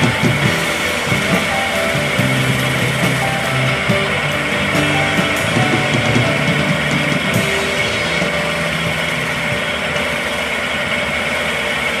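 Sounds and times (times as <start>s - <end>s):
wood lathe running: 0.0s - 12.0s.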